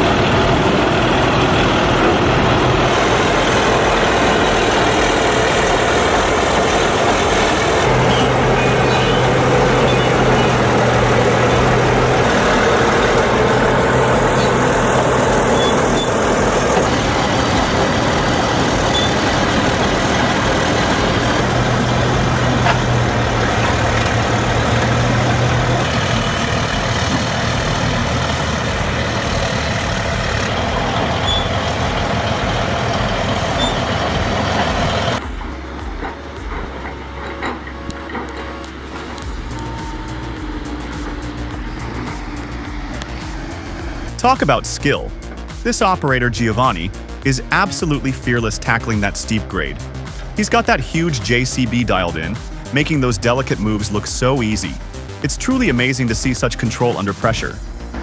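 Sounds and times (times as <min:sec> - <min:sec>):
deeper steady engine note: 0:00.0 - 0:58.0
diesel engines working under load: 0:00.0 - 0:58.0.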